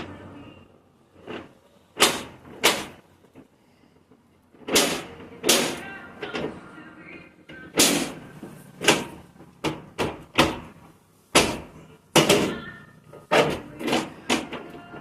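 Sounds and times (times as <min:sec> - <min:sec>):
metal shutter panels clattering: 0:01.1 - 0:03.5, 0:04.5 - 0:15.0.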